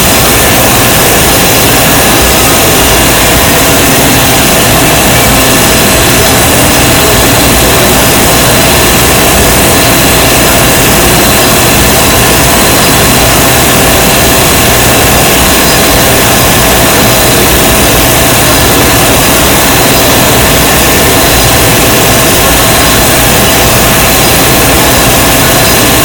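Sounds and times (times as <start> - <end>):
high machine whine: 0.0 - 26.0
machine running: 0.0 - 26.0.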